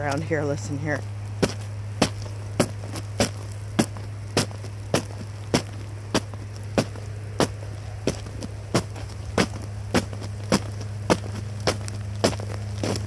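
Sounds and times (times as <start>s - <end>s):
footsteps crunching on icy snow: 0.0s - 13.0s.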